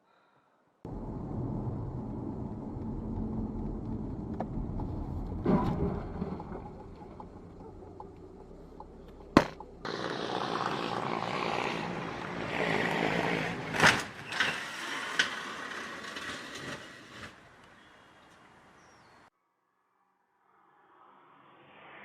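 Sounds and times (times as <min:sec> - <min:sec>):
car road noise: 0:00.9 - 0:19.3.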